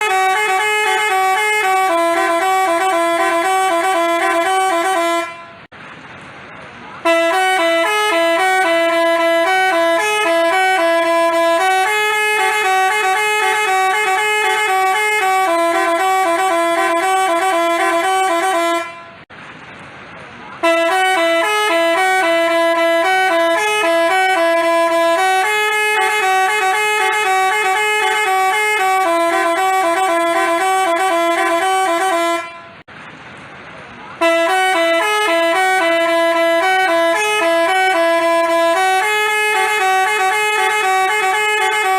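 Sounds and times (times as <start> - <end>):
multi-tone bus horn tune: 0.0 - 5.7, 7.0 - 19.3, 20.6 - 32.9, 34.2 - 41.9.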